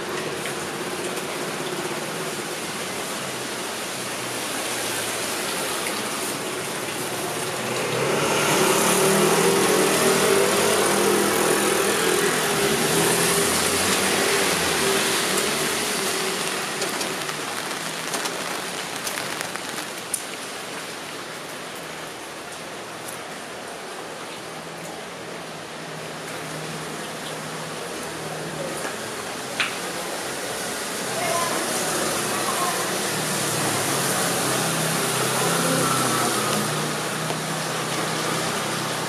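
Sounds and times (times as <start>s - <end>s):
steady rain: 0.0s - 39.0s
vehicle passing on wet street: 0.0s - 39.0s.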